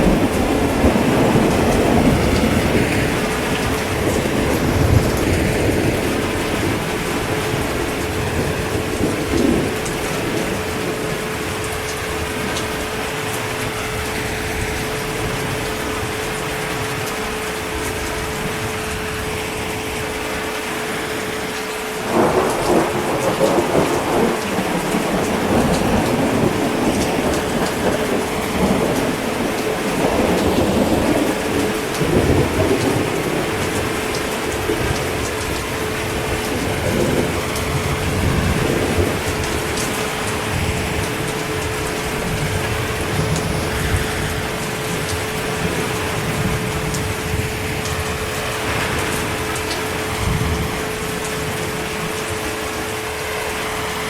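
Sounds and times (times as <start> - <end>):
heavy rain: 0.0 - 54.0
thunder rumbling: 0.0 - 54.0.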